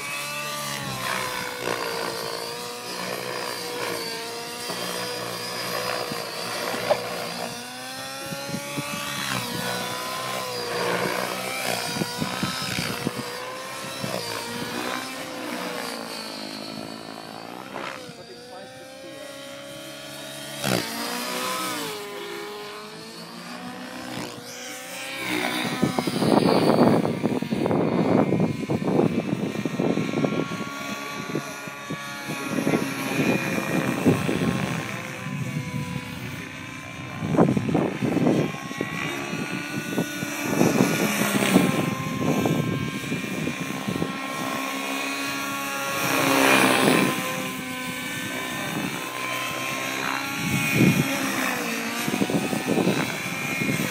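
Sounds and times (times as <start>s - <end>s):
model helicopter engine and rotors whining: 0.0s - 53.9s.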